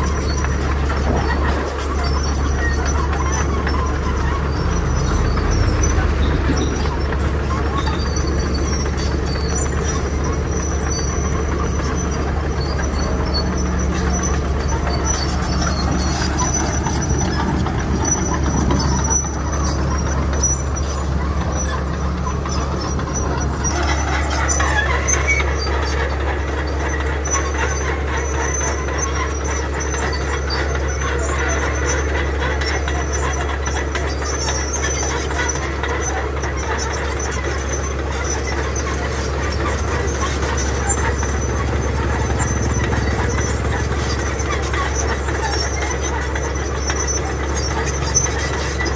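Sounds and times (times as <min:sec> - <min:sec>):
bulldozer diesel engine droning: 0:00.0 - 0:48.9
rumble of tracks and stone: 0:00.0 - 0:48.9.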